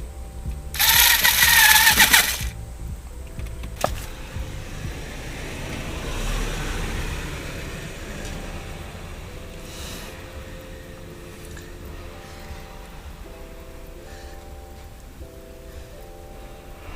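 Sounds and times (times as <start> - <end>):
road vehicle passing: 0.0 - 16.9.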